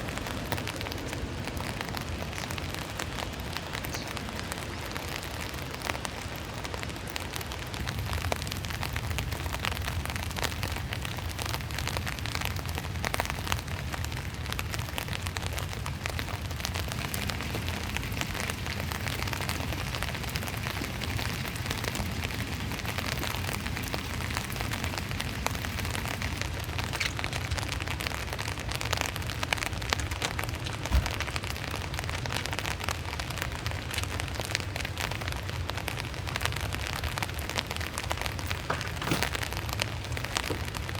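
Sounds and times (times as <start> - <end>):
heavy rain pelting down: 0.0 - 40.9
low rumble of strong wind: 0.0 - 40.9.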